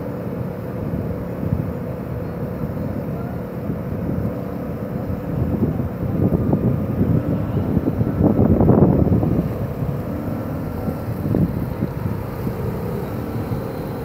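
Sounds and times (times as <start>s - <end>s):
car engines idling: 0.0s - 14.0s.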